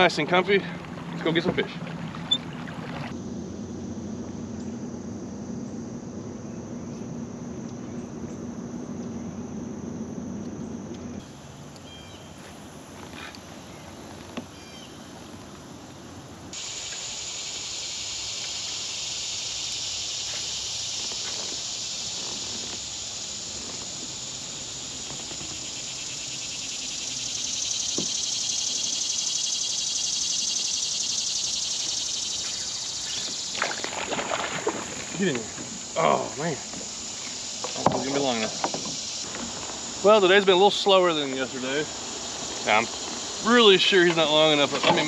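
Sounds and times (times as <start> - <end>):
insects buzzing: 0.0 - 45.0.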